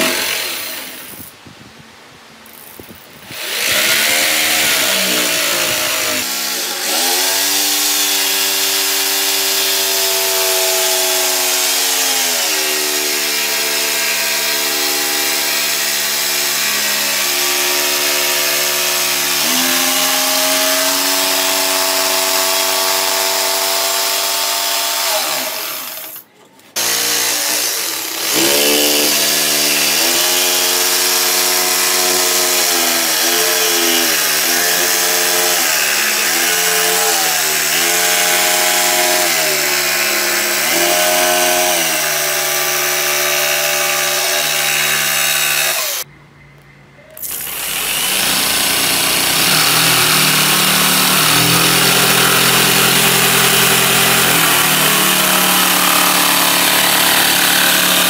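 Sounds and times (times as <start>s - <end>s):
jigsaw cutting plywood: 0.0s - 1.2s, 3.2s - 46.1s, 47.2s - 58.0s.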